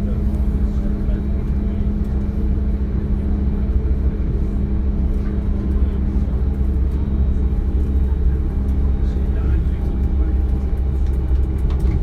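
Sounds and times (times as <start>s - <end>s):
constant hum: 0.0s - 12.0s
train interior rumble: 0.0s - 12.0s.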